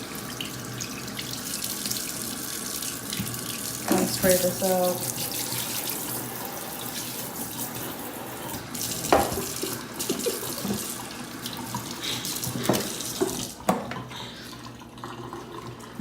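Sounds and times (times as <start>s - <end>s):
tap water spraying into a sink: 0.0s - 14.2s.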